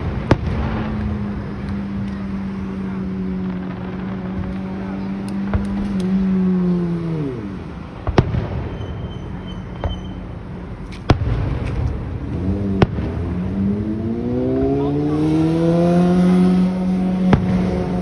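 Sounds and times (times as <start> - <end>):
vehicle engine revving: 0.0 - 8.6, 11.1 - 18.0
fireworks bangs: 0.0 - 18.0.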